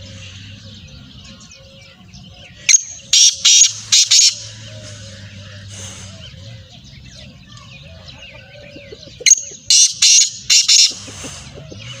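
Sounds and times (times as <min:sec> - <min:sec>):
bird harsh rasping calls: 0:00.0 - 0:12.0.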